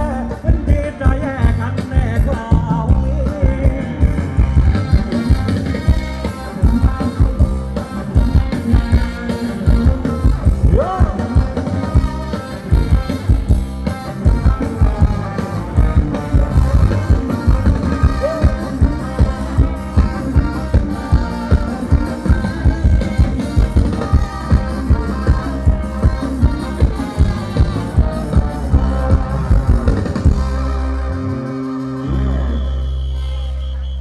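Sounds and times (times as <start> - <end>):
person singing: 0.0 - 32.6
amplified live band: 0.0 - 34.0
heavy bass beat: 0.0 - 34.0.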